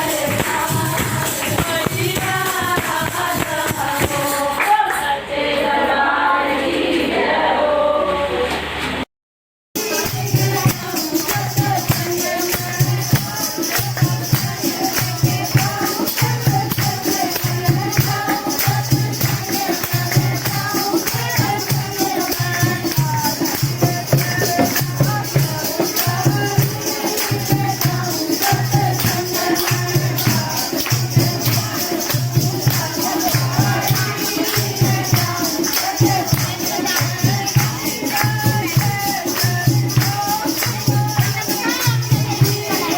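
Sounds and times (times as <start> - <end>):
jingling percussion: 0.0 - 4.6, 9.8 - 42.9
group singing: 0.0 - 9.0, 9.8 - 42.9.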